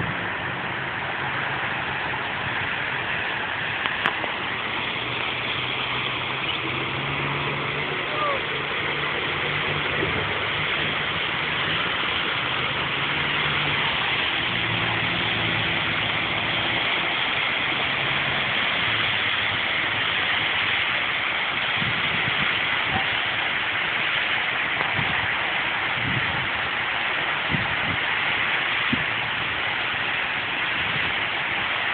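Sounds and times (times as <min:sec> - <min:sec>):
constant hiss: 0:00.0 - 0:31.9
vehicle engine idling: 0:00.0 - 0:31.9.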